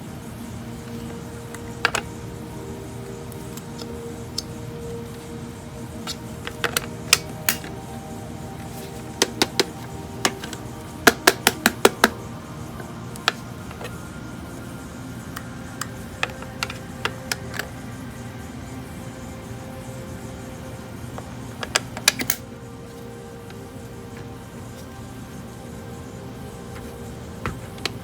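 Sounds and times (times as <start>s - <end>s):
faint background music: 0.0s - 28.0s.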